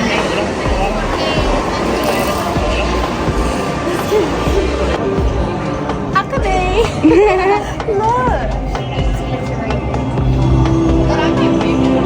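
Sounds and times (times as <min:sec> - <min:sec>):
music playing: 0:00.0 - 0:12.0
noisy background: 0:00.0 - 0:12.0.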